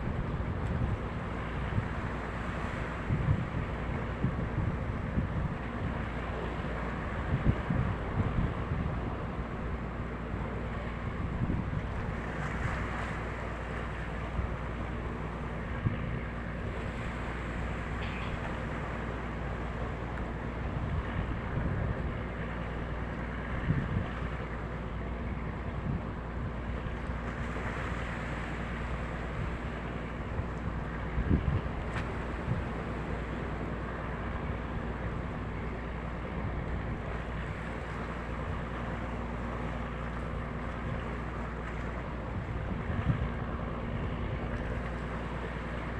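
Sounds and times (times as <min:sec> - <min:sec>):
wind buffeting microphone: 0:00.0 - 0:27.8, 0:29.2 - 0:39.3
boat engine drone: 0:00.0 - 0:45.9.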